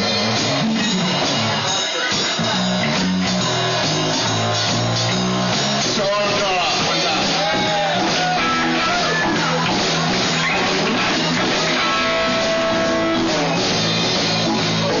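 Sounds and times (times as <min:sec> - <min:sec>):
electric guitar lead bent notes: 0:00.0 - 0:15.0
live blues band: 0:00.0 - 0:15.0.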